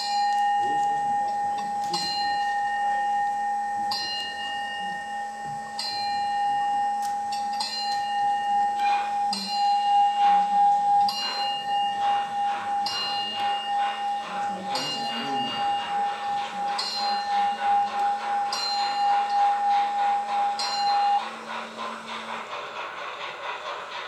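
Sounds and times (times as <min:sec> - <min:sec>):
bell struck ringing: 0:00.0 - 0:21.6.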